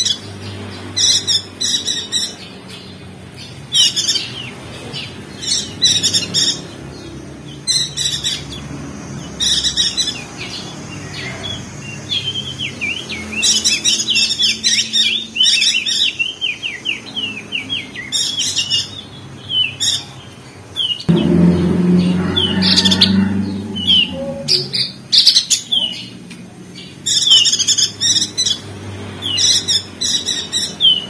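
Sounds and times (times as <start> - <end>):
songbird chirping and warbling: 0.0 - 31.0.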